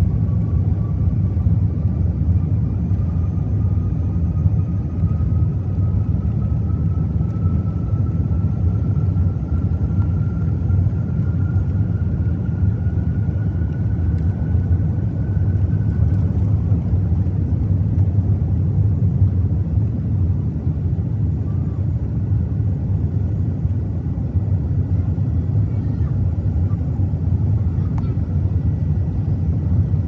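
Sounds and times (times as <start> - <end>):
jet engines low rumble: 0.0 - 30.0.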